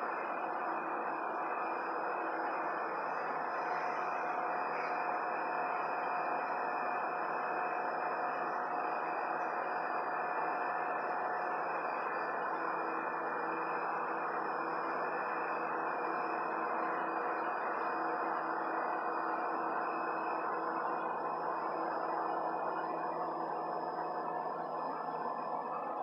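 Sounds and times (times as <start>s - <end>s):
faint whine tones: 0.0s - 26.0s.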